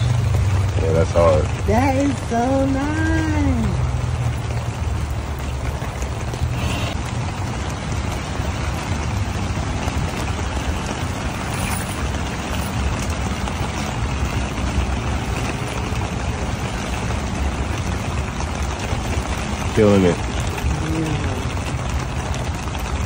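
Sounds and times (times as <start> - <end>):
constant hiss: 0.0 - 23.0
heavy low rumble: 0.0 - 23.0
rain: 0.0 - 23.0.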